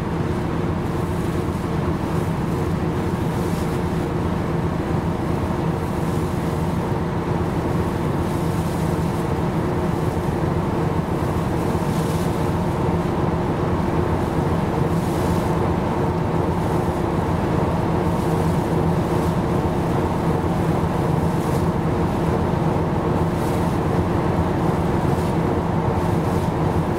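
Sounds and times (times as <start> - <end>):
ship engine drone: 0.0 - 26.9
wind and water hiss: 0.0 - 26.9.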